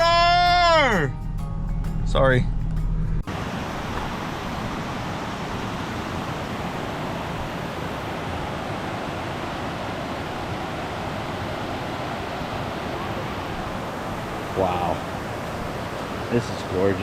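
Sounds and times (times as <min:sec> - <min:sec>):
river water rushing: 0:03.2 - 0:17.0.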